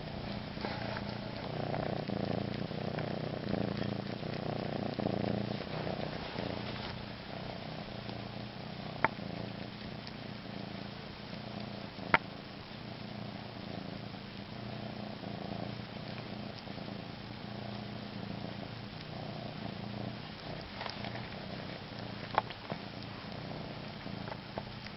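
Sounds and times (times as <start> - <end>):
cat purring: 0.0 - 24.9.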